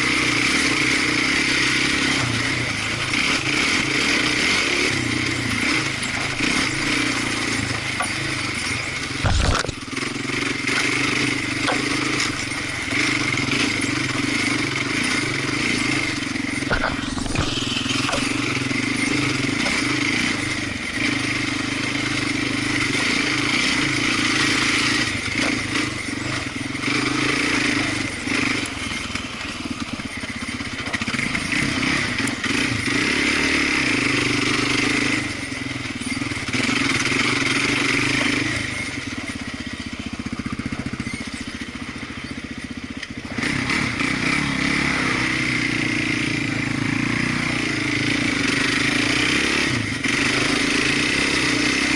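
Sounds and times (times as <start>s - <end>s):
off-road vehicle engine running: 0.0s - 51.9s.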